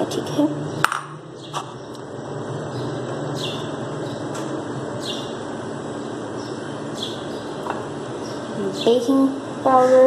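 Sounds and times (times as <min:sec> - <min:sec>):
low background hum: 0:00.0 - 0:10.0
small birds chirping: 0:00.2 - 0:10.0.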